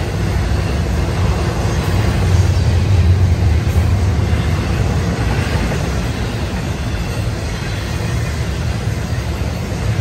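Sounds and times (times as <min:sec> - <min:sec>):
freight train rumbling past: 0:00.0 - 0:10.0.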